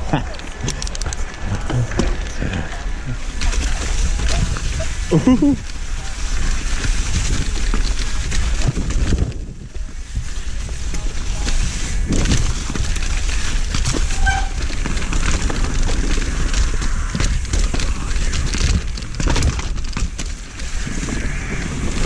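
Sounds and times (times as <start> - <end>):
bike rattling and knocking: 0.0 - 22.0
tyres running over dirt: 0.0 - 22.0
wind rushing over microphone: 0.0 - 22.0.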